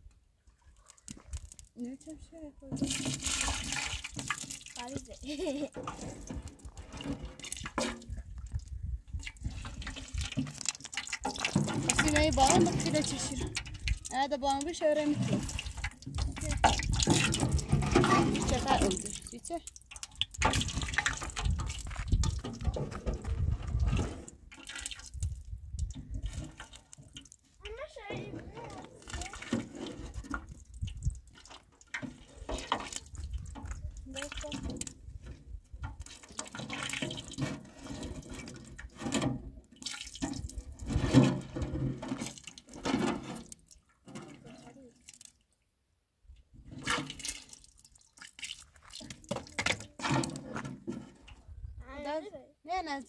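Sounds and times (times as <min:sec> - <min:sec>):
liquid sloshing in a metal tin: 0:00.5 - 0:45.5, 0:46.3 - 0:51.7.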